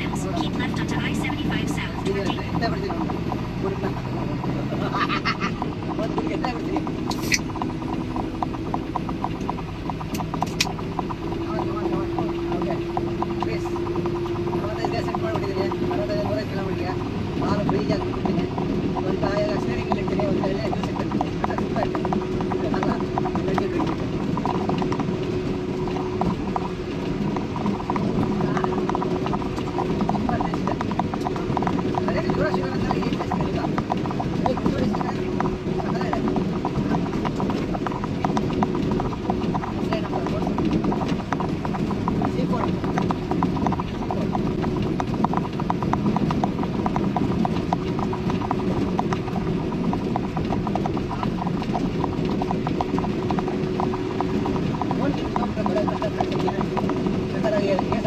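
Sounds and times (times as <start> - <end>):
car road and engine rumble: 0.0 - 58.0
light ticking: 0.0 - 58.0
rapid irregular clicking: 0.0 - 58.0.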